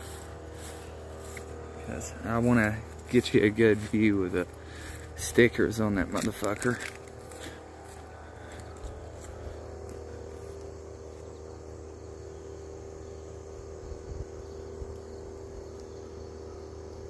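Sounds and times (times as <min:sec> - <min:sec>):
low drone: 0:00.0 - 0:17.0.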